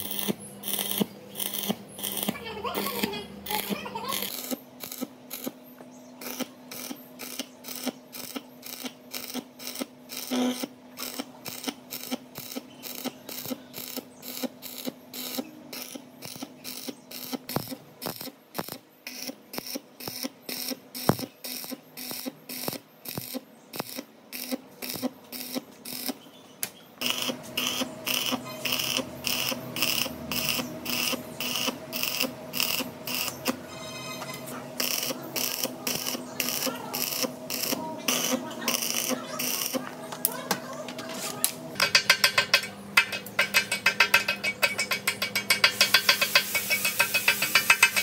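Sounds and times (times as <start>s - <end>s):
rhythmic mechanical strokes: 0.0s - 26.2s, 27.0s - 48.0s
steady low hum: 0.0s - 48.0s.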